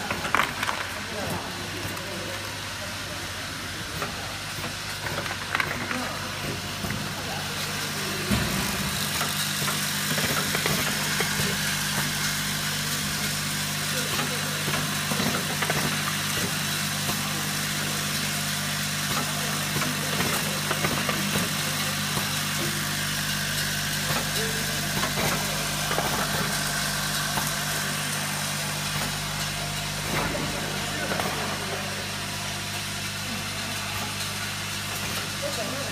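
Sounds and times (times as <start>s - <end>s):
factory machinery humming: 0.0s - 35.9s.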